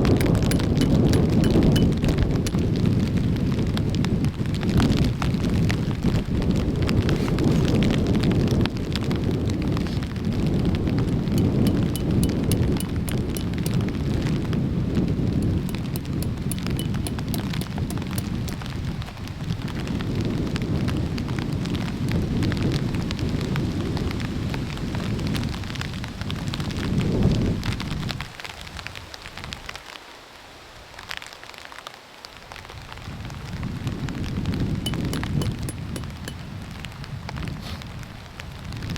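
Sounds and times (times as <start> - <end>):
hard rain: 0.0 - 11.7, 17.8 - 38.9
wind gusts on microphone: 0.0 - 29.8, 32.4 - 38.9
rain drops pattering: 0.0 - 38.9.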